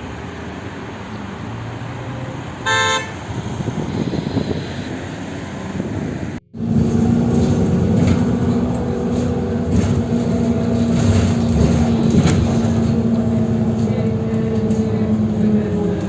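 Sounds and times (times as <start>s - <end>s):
loud vehicle drone: 0.0s - 16.0s
street traffic: 0.0s - 16.0s.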